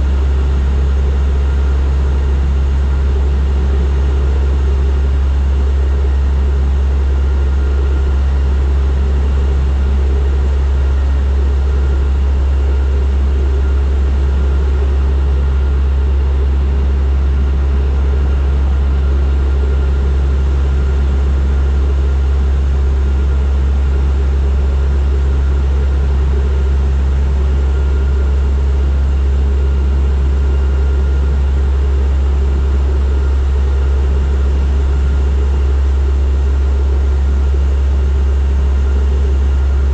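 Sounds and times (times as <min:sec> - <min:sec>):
propeller plane cabin drone: 0:00.0 - 0:39.9.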